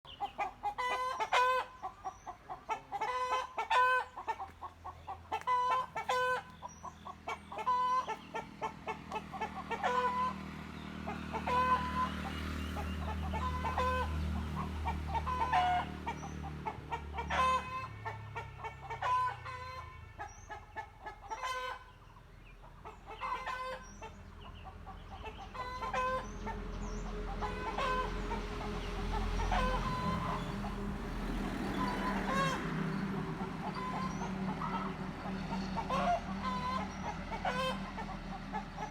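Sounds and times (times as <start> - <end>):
chickens clucking: 0.1 - 38.9.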